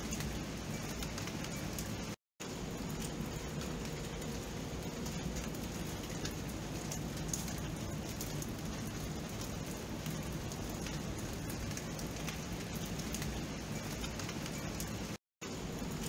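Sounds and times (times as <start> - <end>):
rain drop ticks: 0.0 - 16.0
steady rain hiss: 0.0 - 16.0.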